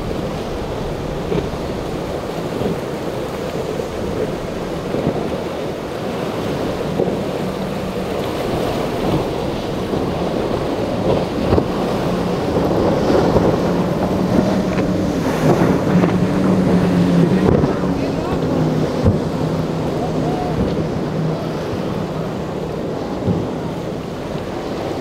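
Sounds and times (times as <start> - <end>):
boat engines droning: 0.0 - 25.0
surf: 0.0 - 25.0
wind noise on microphone: 0.0 - 25.0.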